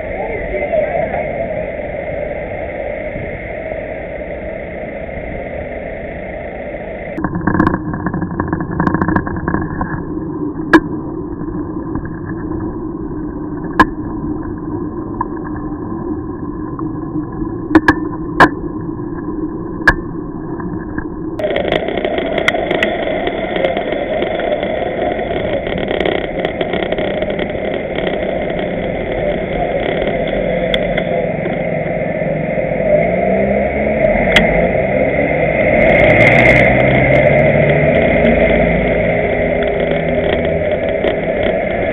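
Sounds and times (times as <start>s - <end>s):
road rumble: 0.0s - 41.9s
wind: 0.0s - 41.9s
motor engine running: 6.9s - 41.9s.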